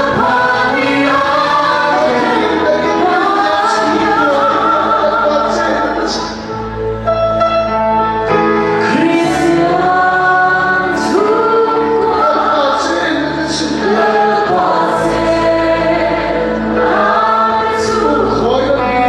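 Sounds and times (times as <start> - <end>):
congregation singing: 0.0 - 7.5, 8.2 - 19.0.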